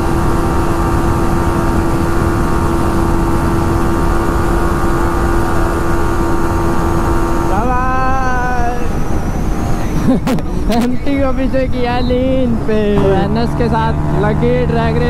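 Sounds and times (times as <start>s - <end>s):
motorcycle engine at speed: 0.0s - 15.0s.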